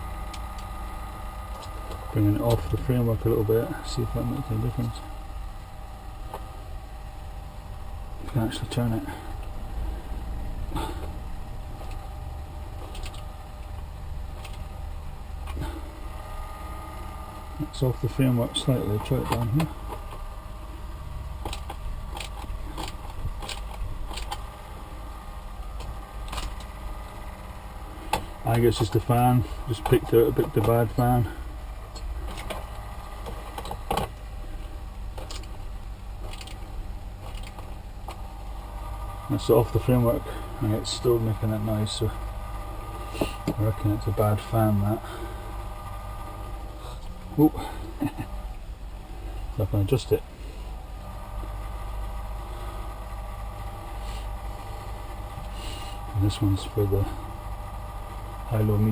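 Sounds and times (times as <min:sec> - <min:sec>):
cooling fan humming: 0:00.0 - 0:58.9.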